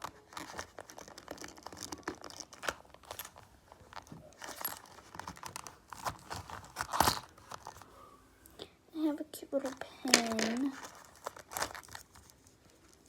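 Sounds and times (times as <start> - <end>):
packaging crinkling and rustling: 0.0 - 7.9, 9.6 - 13.0.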